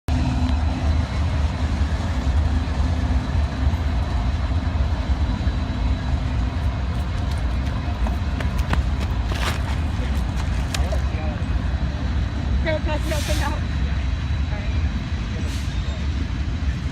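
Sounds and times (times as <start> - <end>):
train wheels rumbling: 0.1 - 16.9.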